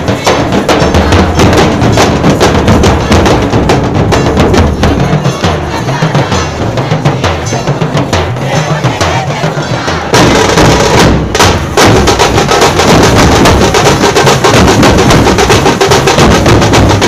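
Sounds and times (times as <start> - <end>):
large drums beaten with sticks: 0.0 - 17.0
rapid small drum strokes: 0.0 - 17.0.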